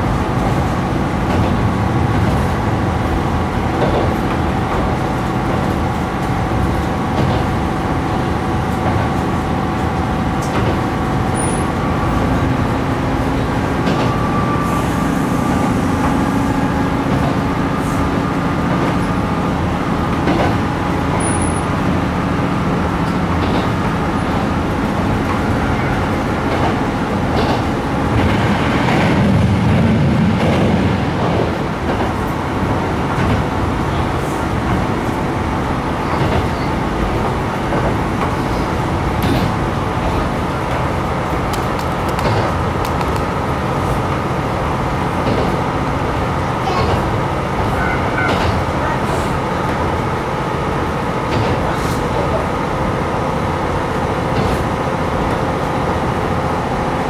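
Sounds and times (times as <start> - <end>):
railcar engine and wheel noise: 0.0 - 57.0.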